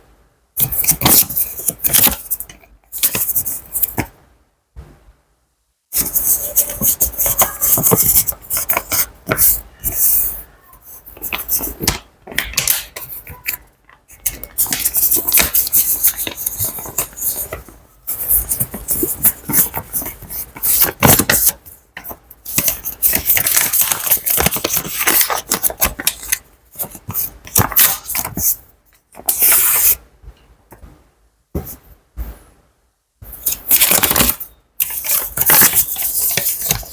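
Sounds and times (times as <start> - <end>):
banknotes rustling and riffling: 0.6 - 4.0, 6.0 - 30.0, 33.4 - 36.9.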